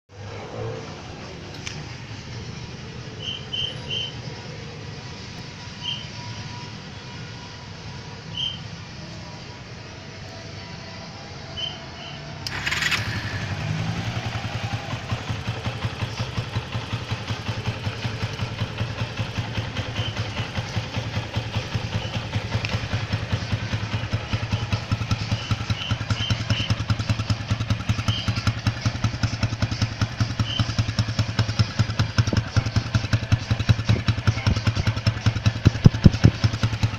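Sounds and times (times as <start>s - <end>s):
motorcycle engine starting and idling: 0.2s - 36.9s.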